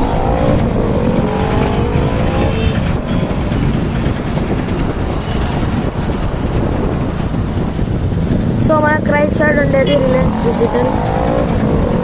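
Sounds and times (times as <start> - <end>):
road traffic rumble: 0.0 - 12.0
vehicle engine pitch gliding: 0.0 - 12.0.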